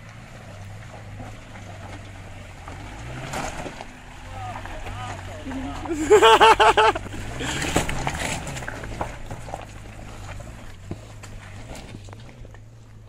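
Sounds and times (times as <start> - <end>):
tyres crunching over stones: 0.0 - 13.0.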